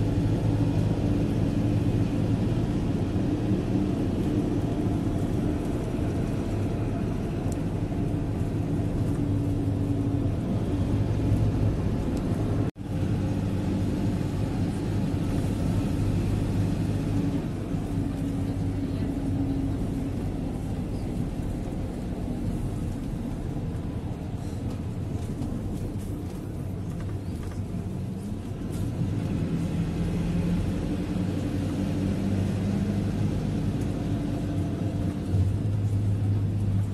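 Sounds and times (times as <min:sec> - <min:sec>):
moving vehicle engine hum: 0:00.0 - 0:36.9
road noise: 0:00.0 - 0:36.9.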